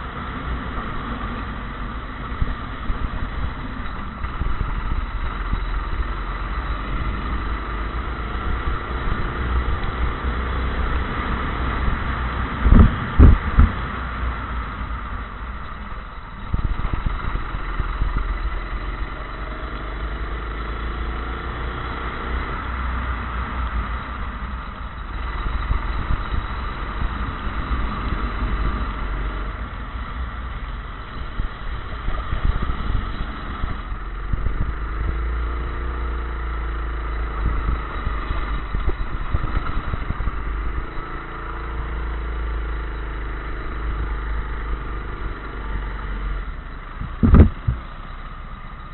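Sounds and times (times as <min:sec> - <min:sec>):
heavy low rumble: 0:00.0 - 0:48.9
kart engine accelerating: 0:00.0 - 0:48.9.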